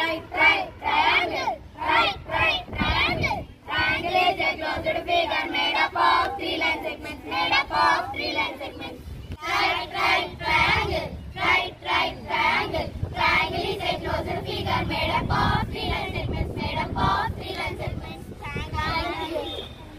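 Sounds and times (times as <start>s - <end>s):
children chanting in unison: 0.0s - 19.9s.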